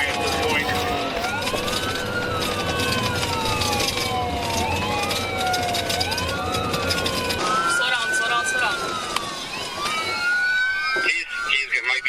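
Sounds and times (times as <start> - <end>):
low vehicle rumble: 0.0 - 10.8
police sirens wailing: 0.0 - 12.0.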